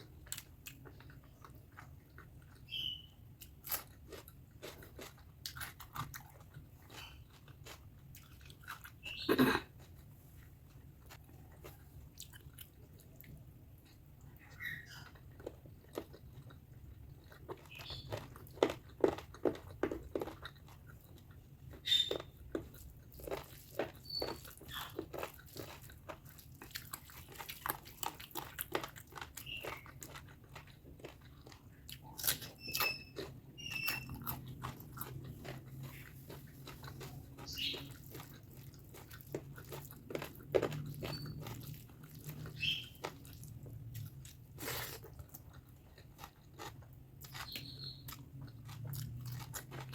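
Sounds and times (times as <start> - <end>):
chewing and biting food: 0.0 - 49.9.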